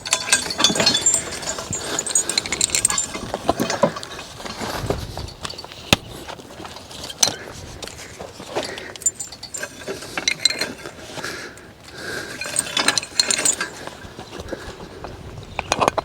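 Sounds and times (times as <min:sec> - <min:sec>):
harness chains clinking: 0:00.0 - 0:07.5, 0:08.2 - 0:15.0.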